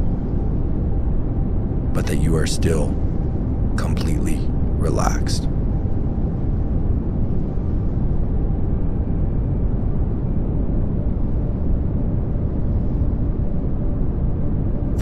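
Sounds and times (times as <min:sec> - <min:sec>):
steady pink noise hiss: 0:00.0 - 0:15.0.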